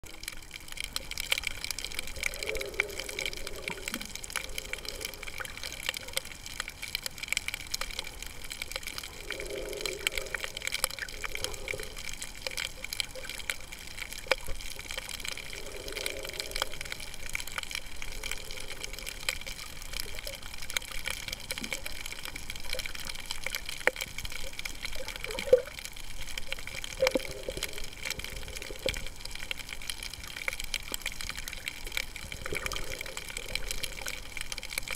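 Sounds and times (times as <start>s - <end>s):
underwater bubbling: 0.0s - 34.9s
underwater crackle of clicks: 0.0s - 34.9s.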